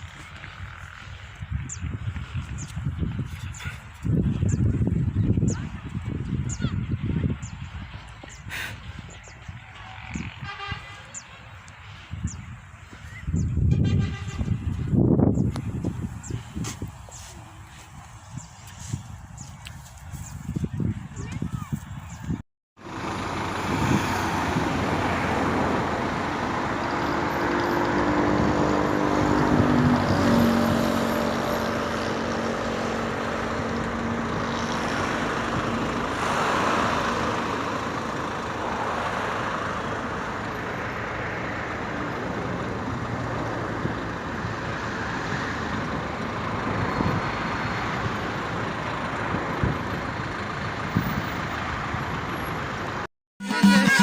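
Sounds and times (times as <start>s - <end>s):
motor vehicle passing: 0.0s - 53.1s
road traffic noise: 0.0s - 54.0s.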